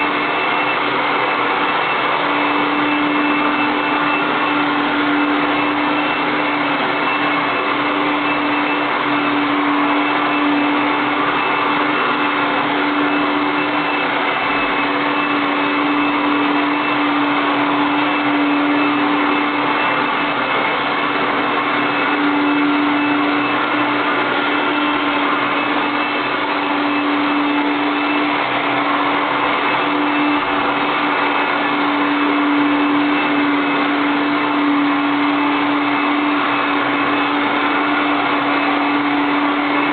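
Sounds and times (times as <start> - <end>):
robot vacuum cleaner running: 0.0 - 39.9.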